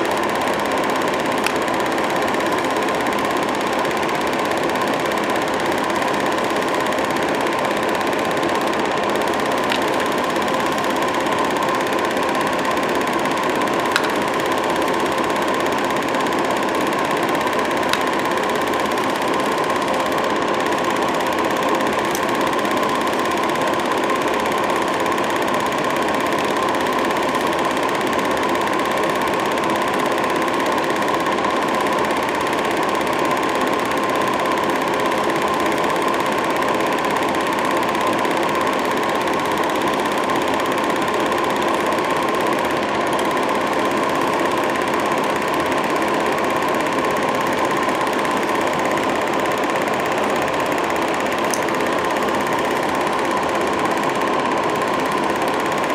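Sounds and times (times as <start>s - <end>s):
film projector clattering: 0.0s - 55.9s.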